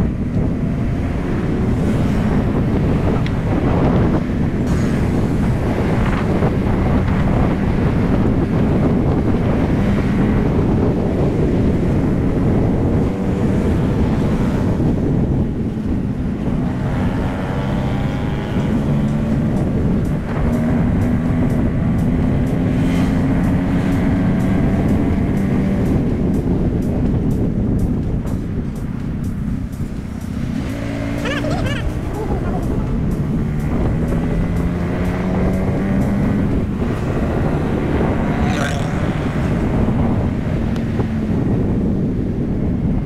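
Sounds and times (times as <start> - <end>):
motorcycle engine running: 0.0 - 43.0
wind buffeting microphone: 0.0 - 43.0.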